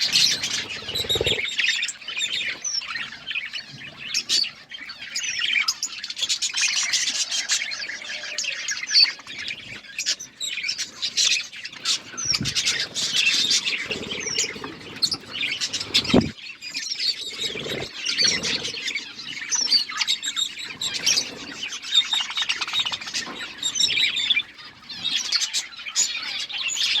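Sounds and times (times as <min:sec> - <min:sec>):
budgerigars chattering and chirping: 0:00.0 - 0:27.0.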